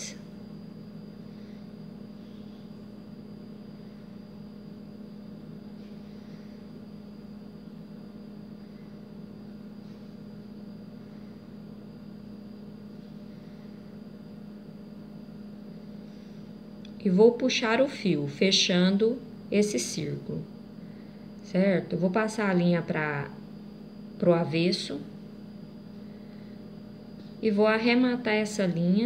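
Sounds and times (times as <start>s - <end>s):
faint high whine: 0.0s - 29.0s
low electrical hum: 0.0s - 29.0s.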